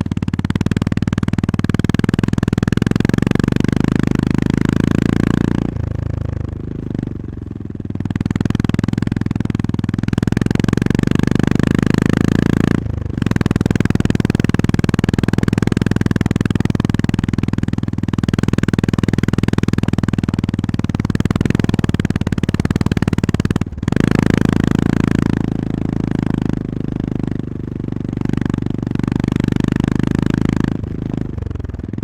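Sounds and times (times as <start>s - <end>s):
motorcycle engine pulsing: 0.0s - 32.0s.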